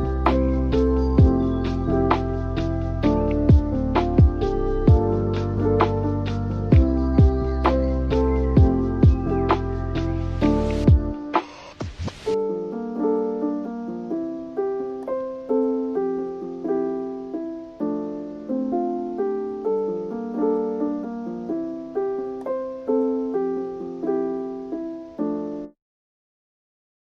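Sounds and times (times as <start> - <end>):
gentle piano chords: 0.0 - 11.4, 12.3 - 25.8.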